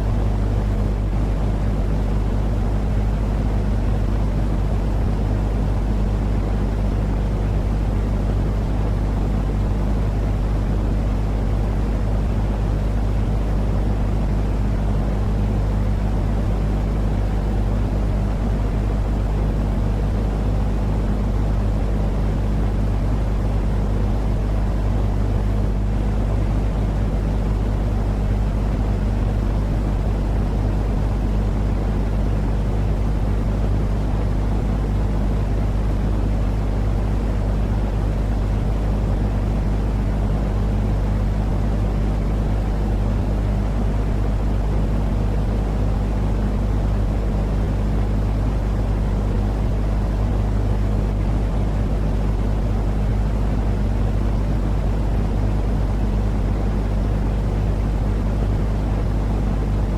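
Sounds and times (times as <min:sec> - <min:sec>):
faint low hum: 0:00.0 - 0:59.9
low rumbling white noise: 0:00.0 - 0:59.9.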